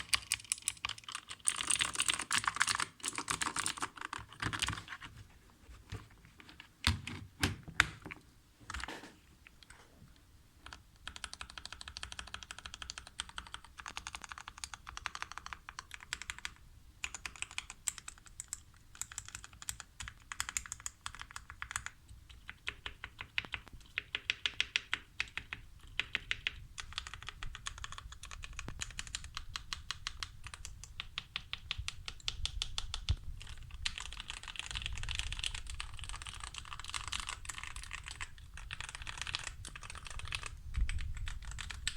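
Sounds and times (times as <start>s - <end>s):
mechanical keyboard typing: 0.0s - 5.1s, 10.6s - 41.9s.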